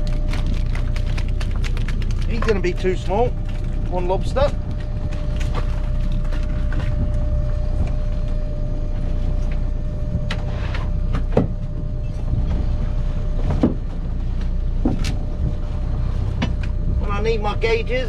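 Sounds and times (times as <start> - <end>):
boat engine rumbling: 0.0 - 18.0
faint steady whine: 0.0 - 18.0.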